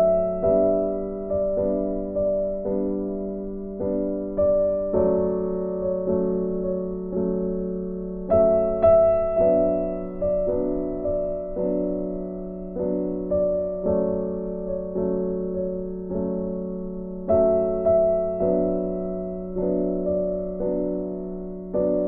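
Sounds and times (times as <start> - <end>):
slow piano melody: 0.0 - 22.0.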